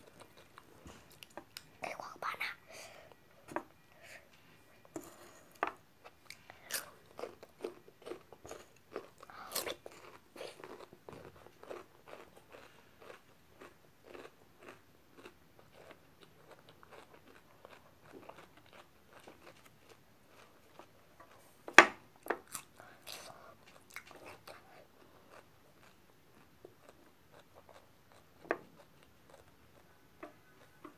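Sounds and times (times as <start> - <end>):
person chewing and crunching food: 0.0 - 1.8, 4.9 - 21.6, 22.2 - 30.9.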